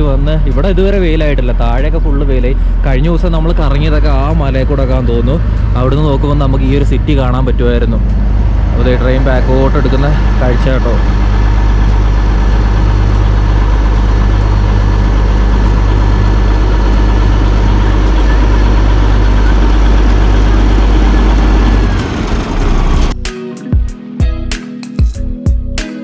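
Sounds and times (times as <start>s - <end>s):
diesel locomotive humming: 0.0s - 23.3s.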